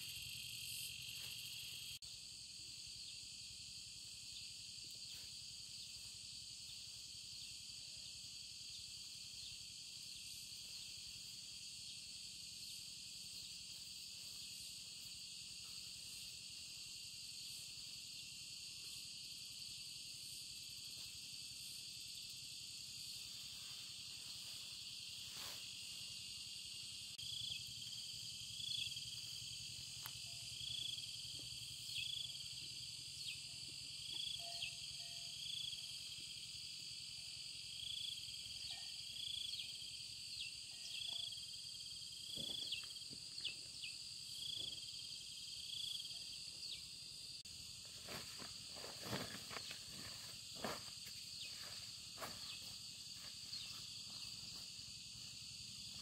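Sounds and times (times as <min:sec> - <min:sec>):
insects buzzing high-pitched: 0:00.0 - 0:56.0.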